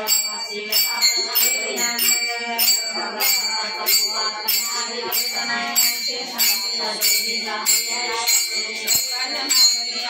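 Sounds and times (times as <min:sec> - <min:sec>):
hand cymbals struck: 0:00.0 - 0:10.0
voices singing devotional song: 0:00.0 - 0:10.0.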